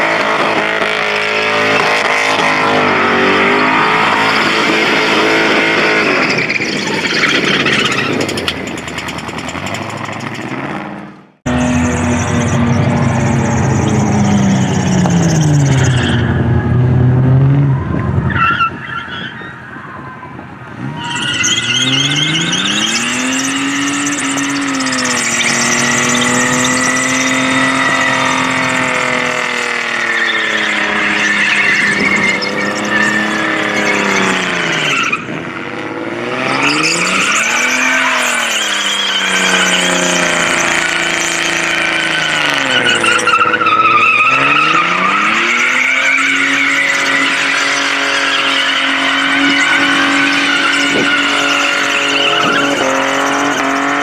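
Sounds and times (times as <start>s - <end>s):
car engine revving: 0.0s - 19.0s, 20.7s - 54.0s
tyres screeching: 0.8s - 35.5s, 36.4s - 54.0s.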